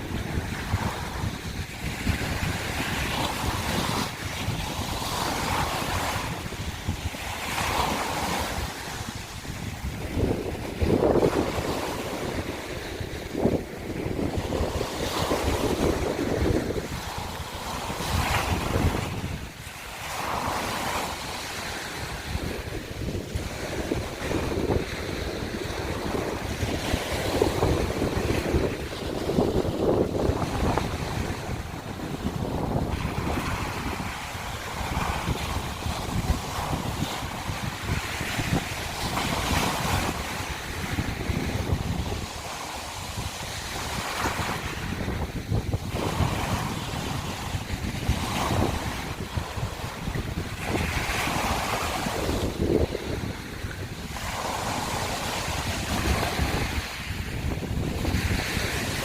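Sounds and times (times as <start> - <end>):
waves washing over shells: 0.0 - 59.0
wind rumbling on microphone: 0.0 - 59.0.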